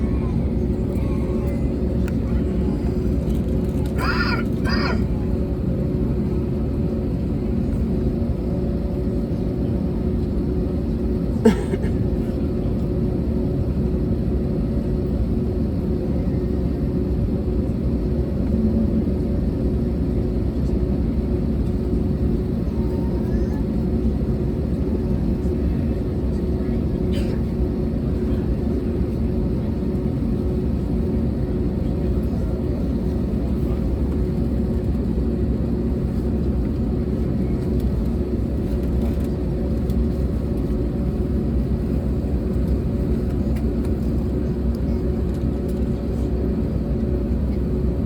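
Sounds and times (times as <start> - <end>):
airplane cabin rumble and hum: 0.0 - 48.0.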